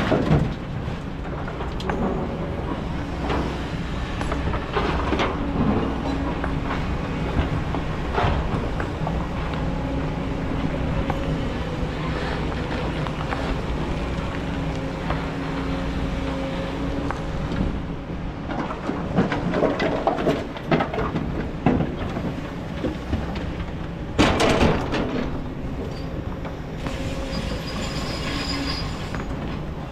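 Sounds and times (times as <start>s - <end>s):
excavator diesel engine: 0.0s - 29.9s.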